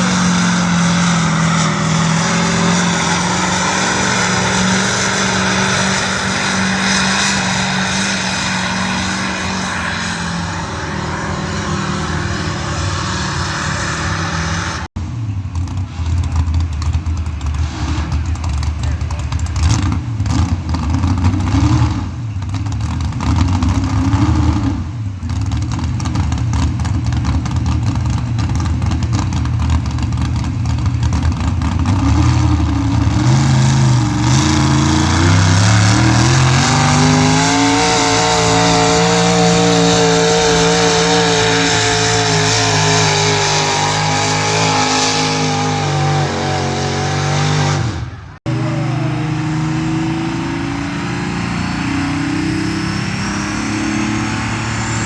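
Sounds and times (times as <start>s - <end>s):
pulling vehicle engine revving: 0.0s - 55.0s.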